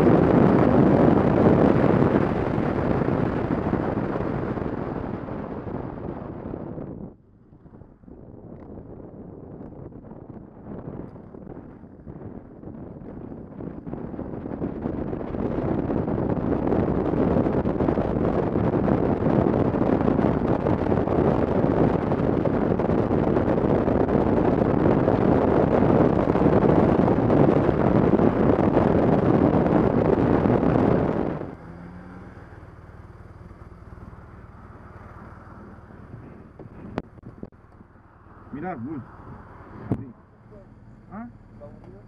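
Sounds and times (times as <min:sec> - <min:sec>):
motorcycle road noise: 0:00.0 - 0:42.0
wind rushing over microphone: 0:00.0 - 0:42.0.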